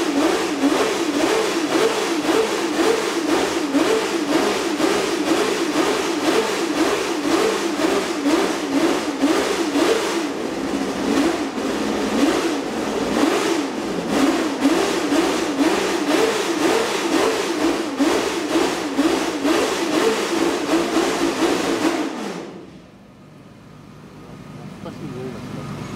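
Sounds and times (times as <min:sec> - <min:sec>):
racing engine revving: 0:00.0 - 0:22.9.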